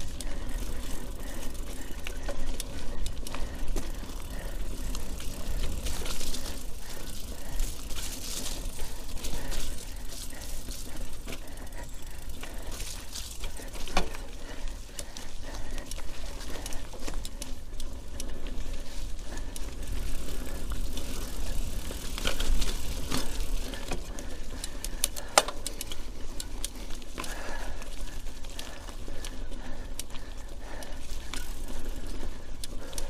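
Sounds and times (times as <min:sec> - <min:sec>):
bike rattling and clattering: 0:00.0 - 0:33.0.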